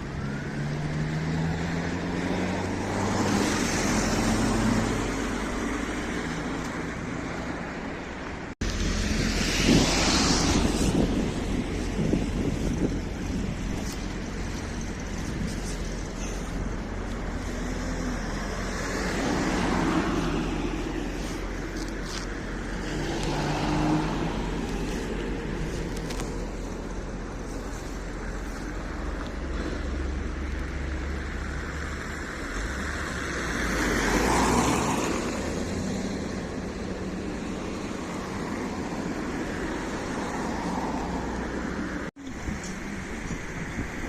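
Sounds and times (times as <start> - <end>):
cars passing by: 0.0 - 44.0.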